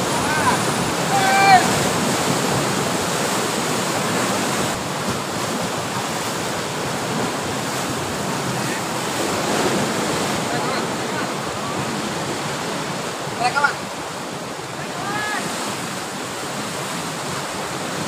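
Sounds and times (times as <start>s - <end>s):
sea surf rushing: 0.0s - 18.0s.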